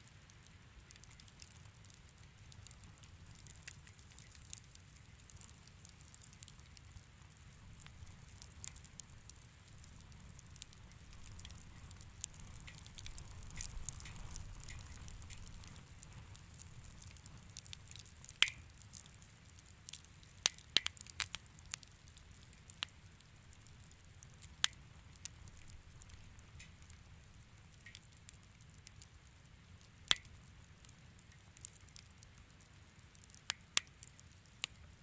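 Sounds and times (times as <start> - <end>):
low rumble of flames: 0.0 - 35.0
wood fire crackling: 0.0 - 35.0.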